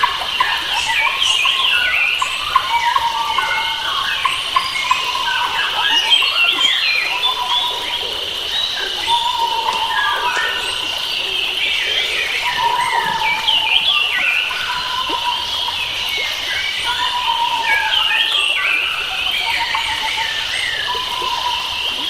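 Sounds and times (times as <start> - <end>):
birds chirping and whistling: 0.7 - 22.0.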